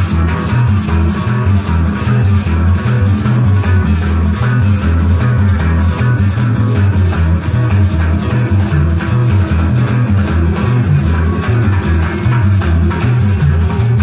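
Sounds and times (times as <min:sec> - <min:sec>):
bass line: 0:00.0 - 0:14.0
electric guitars: 0:00.0 - 0:14.0
live band playing cumbia: 0:00.0 - 0:14.0.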